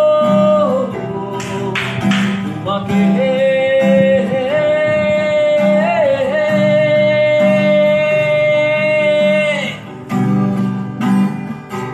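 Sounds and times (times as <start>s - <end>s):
guitar accompaniment: 0.0s - 11.9s.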